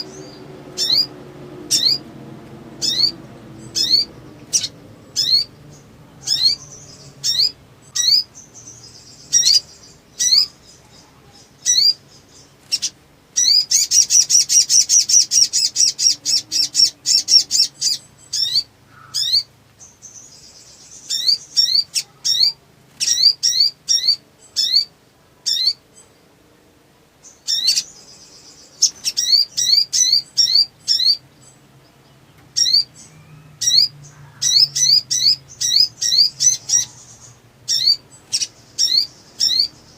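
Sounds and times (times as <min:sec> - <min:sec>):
bird singing chips and trills: 0:00.0 - 0:02.1, 0:02.7 - 0:26.2, 0:27.2 - 0:39.9.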